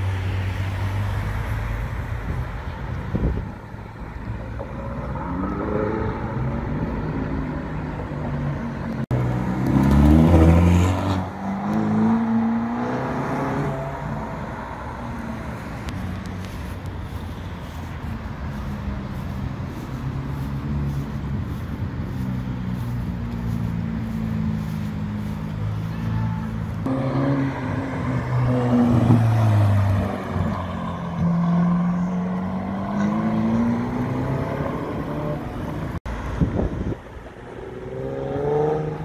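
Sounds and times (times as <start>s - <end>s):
car engines accelerating: 0.0s - 39.0s
traffic: 0.0s - 39.0s.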